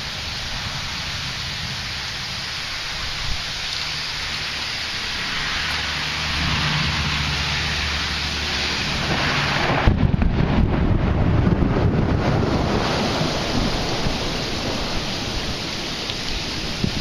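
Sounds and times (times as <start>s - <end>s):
rain hiss: 0.0s - 17.0s
thunder rumbling: 0.0s - 17.0s
wind buffeting microphone: 0.0s - 17.0s.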